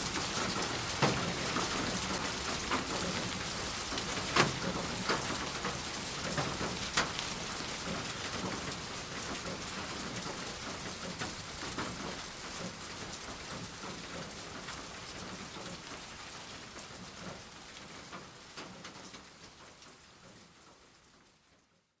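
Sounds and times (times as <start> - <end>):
rain drops pattering: 0.0 - 22.0.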